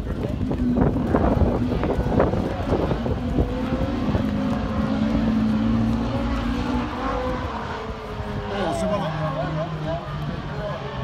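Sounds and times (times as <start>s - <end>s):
distant race car engines droning: 0.0s - 11.0s.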